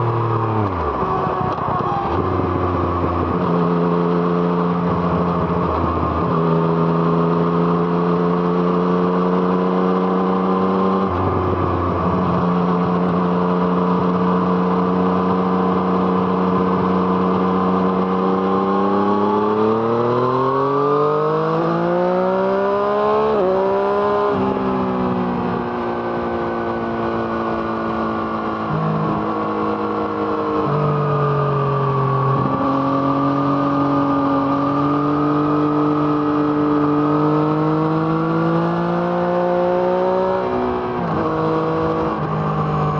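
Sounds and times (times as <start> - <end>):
motorcycle engine while riding: 0.0 - 42.9.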